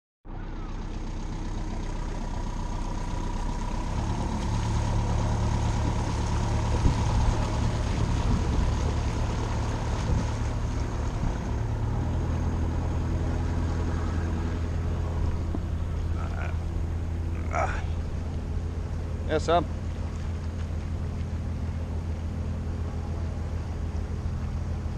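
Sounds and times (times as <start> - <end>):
boat engine drone: 0.2 - 24.9.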